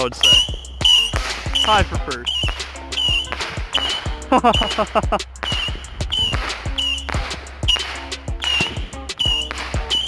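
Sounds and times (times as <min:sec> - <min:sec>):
firework missiles whistling: 0:00.0 - 0:10.0
firework pops: 0:00.0 - 0:10.0.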